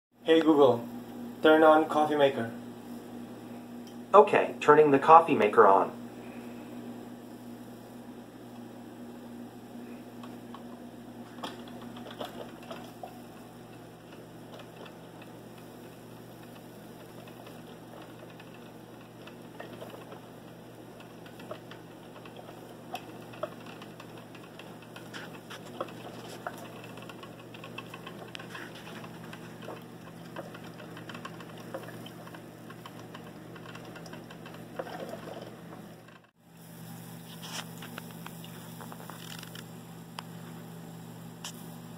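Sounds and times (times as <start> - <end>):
low steady hum: 0.2 - 41.9.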